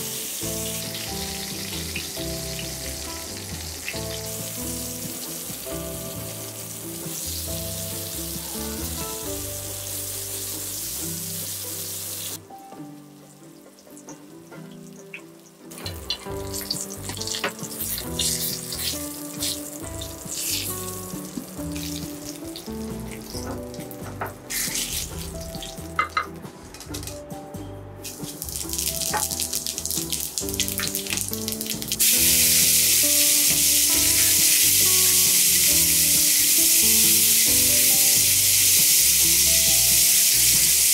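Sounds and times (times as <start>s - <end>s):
eggplant sizzling in oil: 0.0s - 12.4s, 13.3s - 26.3s, 28.0s - 40.9s
background music: 0.0s - 40.9s.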